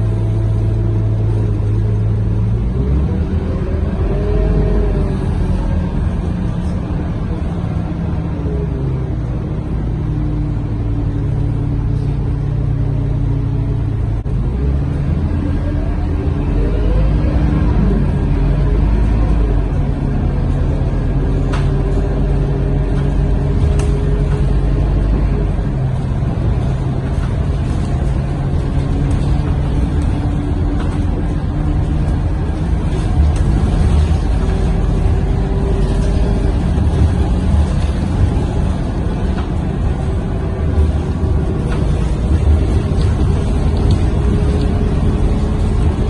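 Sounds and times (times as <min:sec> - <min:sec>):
bus diesel engine running: 0:00.0 - 0:46.0
road rumble: 0:00.0 - 0:46.0.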